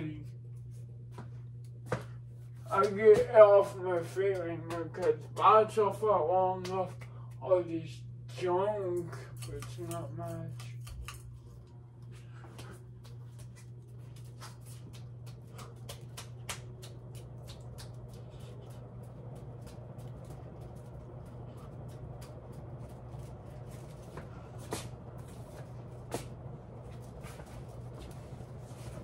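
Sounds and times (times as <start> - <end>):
ceiling fan hum and ticking: 0.0 - 29.0.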